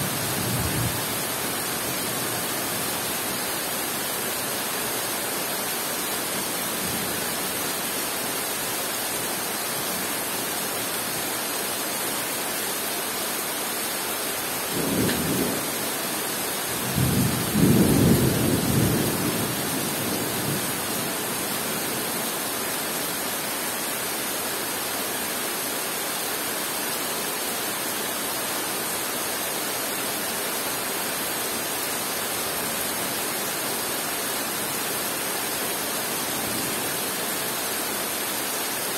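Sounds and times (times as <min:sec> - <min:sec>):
rain on foliage: 0:00.0 - 0:38.9.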